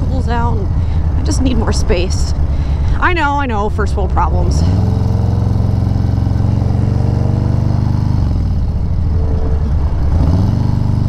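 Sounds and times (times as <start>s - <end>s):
motorcycle engine and exhaust: 0.0s - 11.0s.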